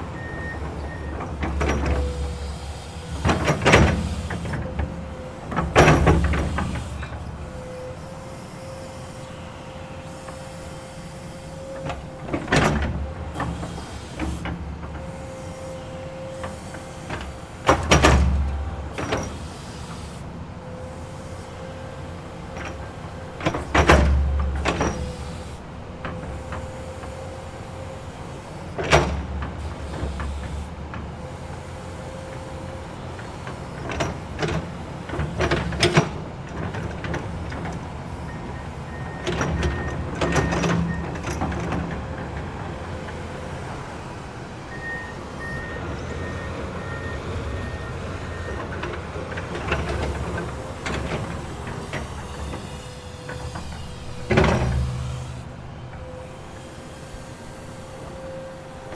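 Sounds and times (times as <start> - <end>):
excavator engine running: 0.0 - 58.9.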